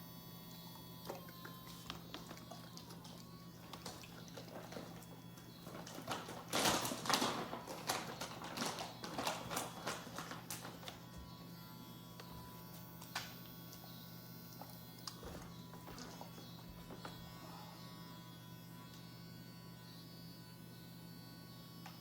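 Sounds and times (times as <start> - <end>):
nail grinder motor humming: 0.0 - 22.0.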